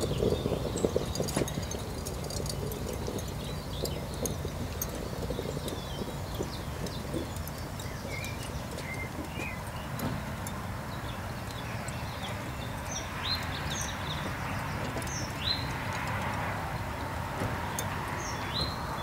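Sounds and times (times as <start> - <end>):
birds chirping: 0.0 - 19.0
wind rumbling on microphone: 0.0 - 19.0.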